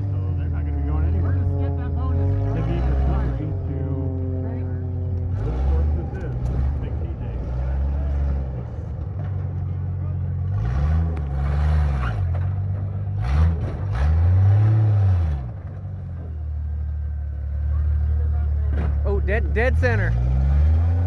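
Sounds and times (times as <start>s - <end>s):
engine running and revving: 0.0s - 21.0s.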